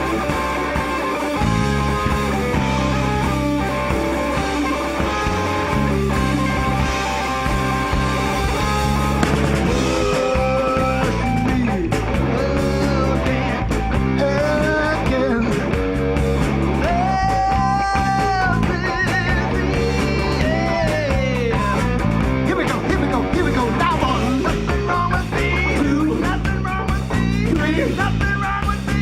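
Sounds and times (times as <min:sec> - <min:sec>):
electric guitar lead: 0:00.0 - 0:29.0
live rock band playing: 0:00.0 - 0:29.0.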